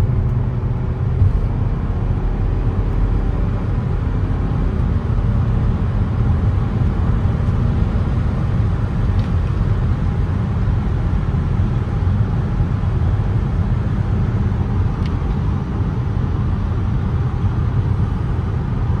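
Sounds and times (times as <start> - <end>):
road and wind noise in car: 0.0 - 19.0.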